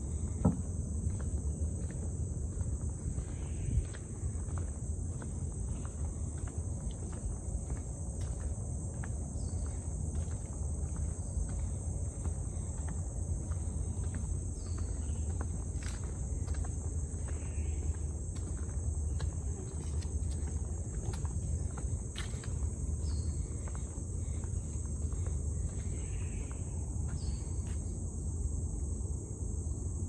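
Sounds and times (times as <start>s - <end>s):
insects droning: 0.0s - 30.0s
light footstep clicks: 0.1s - 27.9s.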